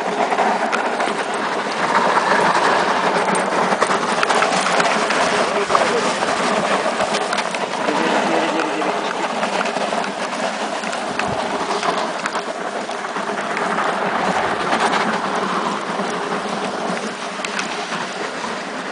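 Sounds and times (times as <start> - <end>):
tyre scraping over gravel: 0.0 - 18.9.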